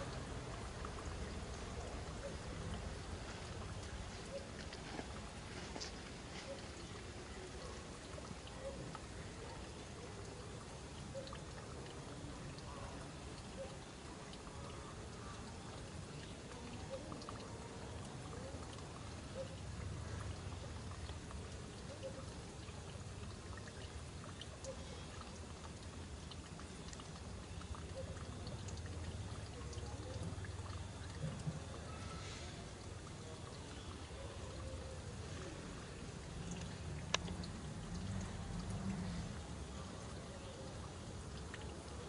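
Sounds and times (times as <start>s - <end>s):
faint ticks and blips: 0.0s - 42.0s.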